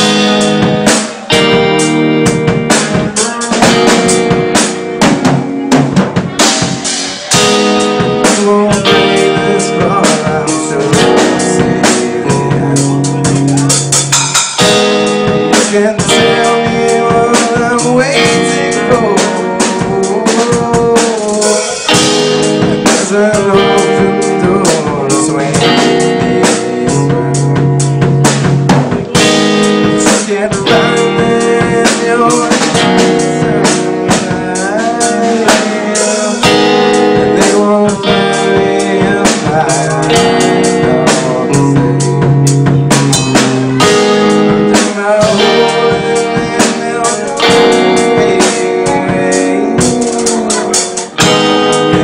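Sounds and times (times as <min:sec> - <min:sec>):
drum kit: 0:00.0 - 0:52.0
electric guitars: 0:00.0 - 0:52.0
man singing: 0:00.0 - 0:52.0.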